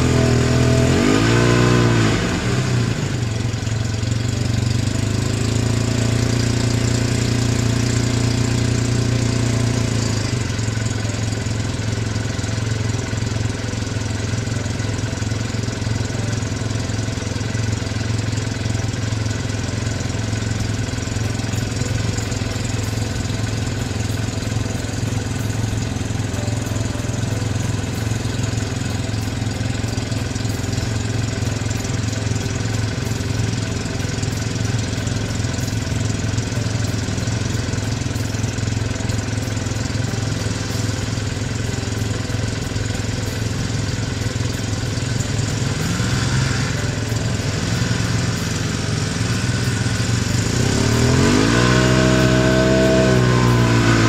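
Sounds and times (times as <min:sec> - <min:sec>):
snowmobile engines humming: 0:00.0 - 0:54.0.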